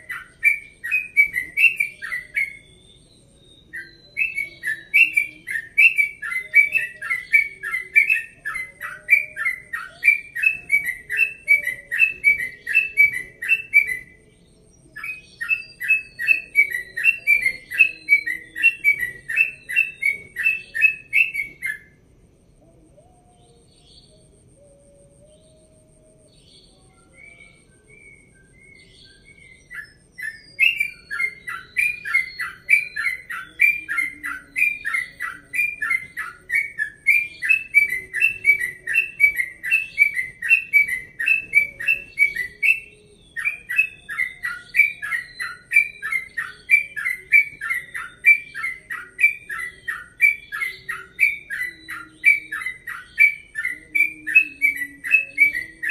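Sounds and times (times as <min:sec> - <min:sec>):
bird singing repeated chirps: 0:00.0 - 0:22.0, 0:26.3 - 0:55.9.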